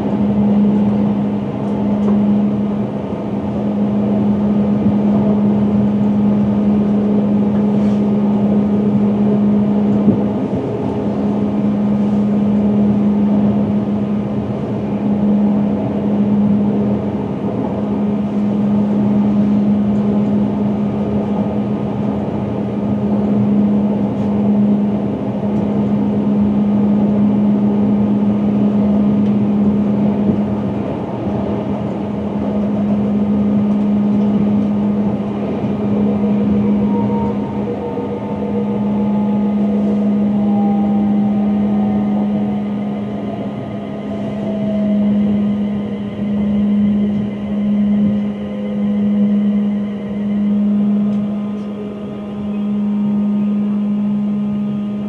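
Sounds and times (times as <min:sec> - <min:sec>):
steady low hum: 0:00.0 - 0:55.0
train cab rumble: 0:00.0 - 0:55.0.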